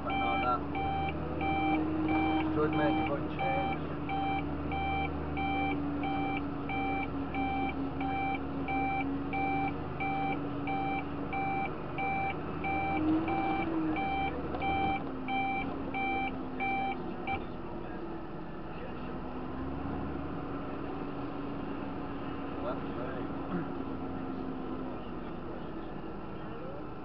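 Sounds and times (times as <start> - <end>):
tractor engine drone: 0.0 - 27.0.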